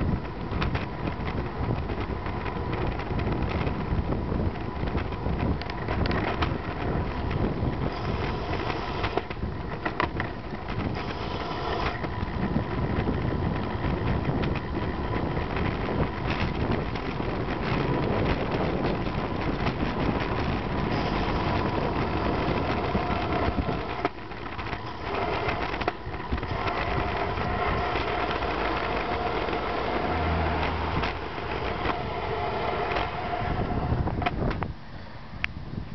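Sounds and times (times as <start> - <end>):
motor traffic noise: 0.0 - 35.9
wind rushing over microphone: 0.0 - 35.9.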